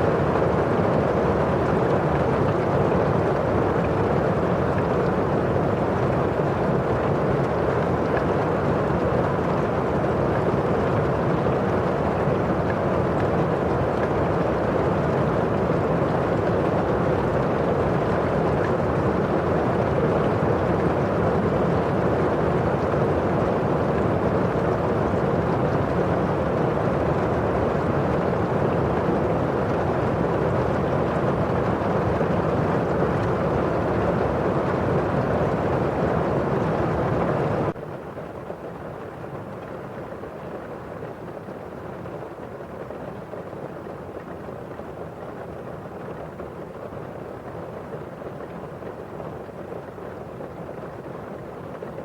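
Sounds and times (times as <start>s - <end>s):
rain on a window pane: 0.0s - 52.0s.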